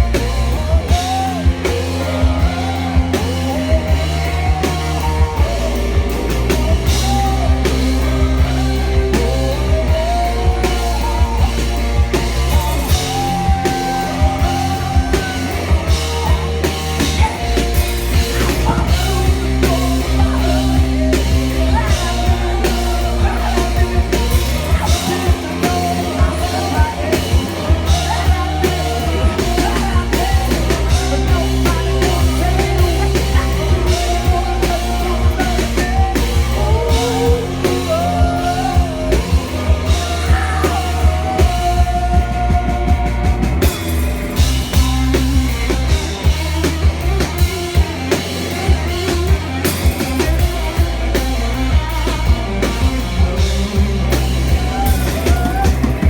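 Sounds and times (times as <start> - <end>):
person singing lead: 0.0 - 43.8, 44.4 - 56.0
drum kit beat: 0.0 - 56.0
heavy bass: 0.0 - 56.0
rock band playing: 0.0 - 56.0.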